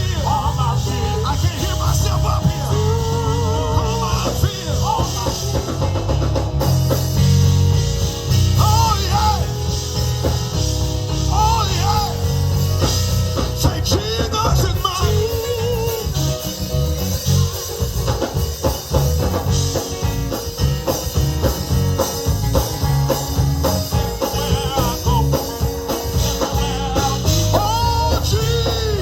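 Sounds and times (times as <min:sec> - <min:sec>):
drum kit: 0:00.0 - 0:29.0
electric bass: 0:00.0 - 0:29.0
organ melody: 0:00.0 - 0:29.0.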